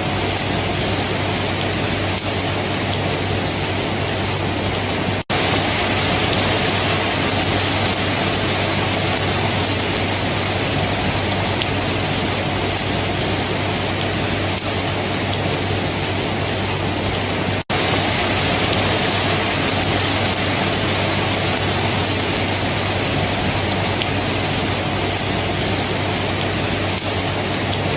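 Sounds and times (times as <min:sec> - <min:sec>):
dense rainfall: 0:00.0 - 0:27.9.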